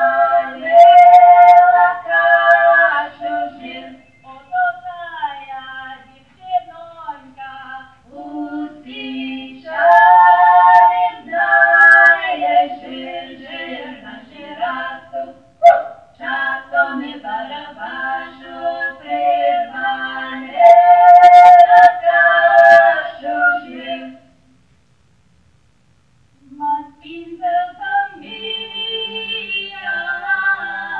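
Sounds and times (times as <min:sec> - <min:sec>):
group singing in harmony: 0:00.0 - 0:04.9, 0:06.7 - 0:24.3, 0:27.4 - 0:30.9.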